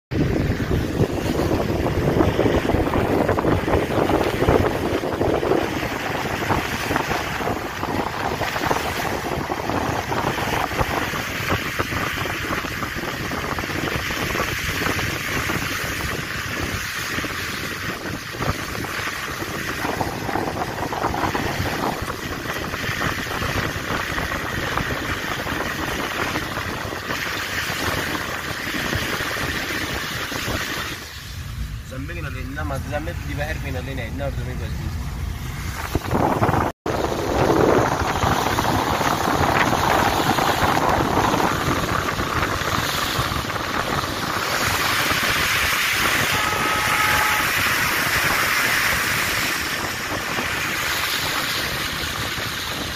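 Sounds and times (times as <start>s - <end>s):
tyre noise on wet road: 0.1s - 52.9s
wind on microphone: 0.1s - 52.9s.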